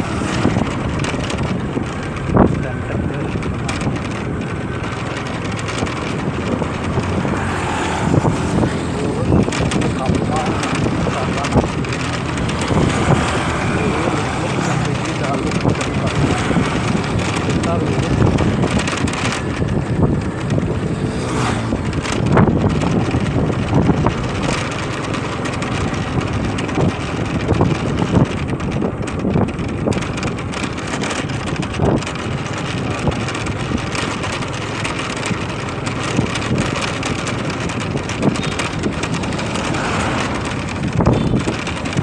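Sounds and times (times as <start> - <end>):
motorcycle engine: 0.0 - 42.0
wind buffeting microphone: 0.0 - 42.0.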